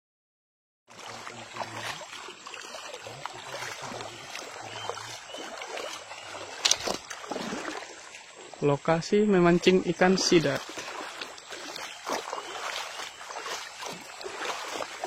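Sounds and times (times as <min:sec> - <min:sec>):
river water sloshing and splashing: 0:00.9 - 0:15.0.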